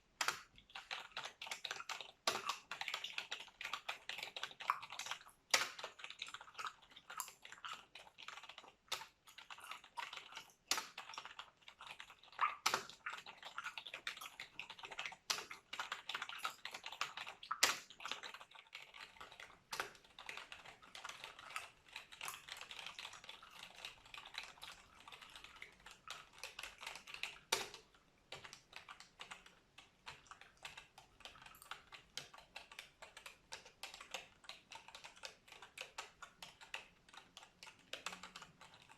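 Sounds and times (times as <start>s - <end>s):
computer keyboard typing: 0.2s - 38.9s.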